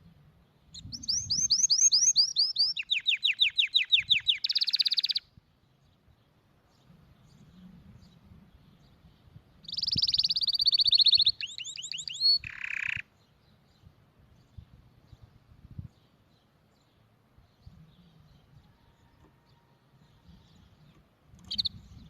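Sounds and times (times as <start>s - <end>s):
canary singing trills: 0.7s - 5.4s, 6.8s - 22.0s.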